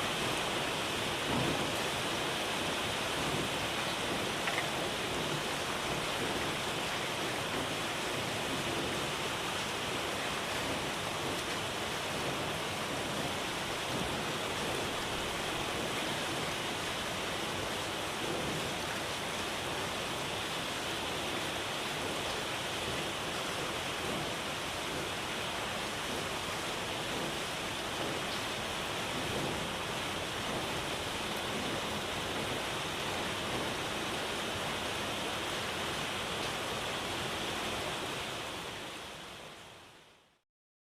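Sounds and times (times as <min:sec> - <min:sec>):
heavy rain on the sea: 0:00.0 - 0:40.4.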